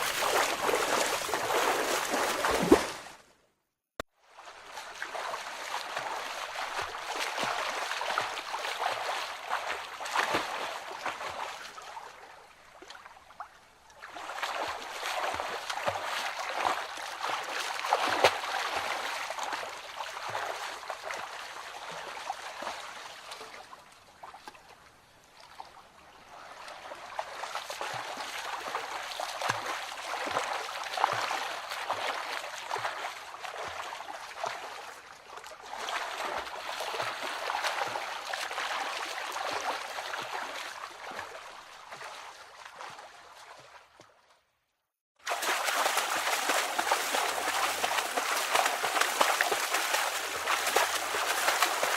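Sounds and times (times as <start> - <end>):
water trickling and splashing: 0.0 - 3.2, 4.2 - 44.3, 45.2 - 51.9.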